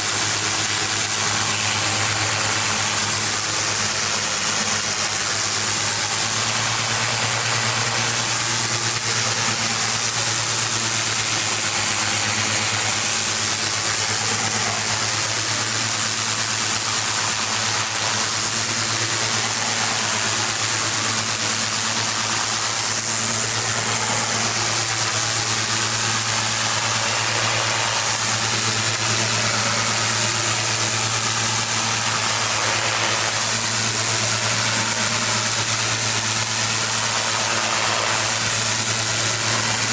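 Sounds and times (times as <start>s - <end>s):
high-pressure water spray hiss: 0.0s - 39.9s
pressure washer engine hum: 0.0s - 39.9s.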